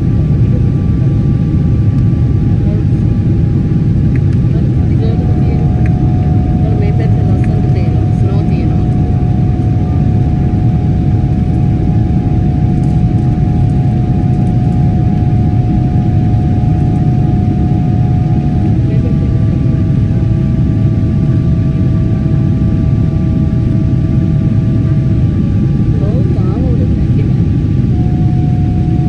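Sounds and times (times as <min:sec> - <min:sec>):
jet engine drone: 0:00.0 - 0:29.0
steady whine: 0:00.0 - 0:29.0.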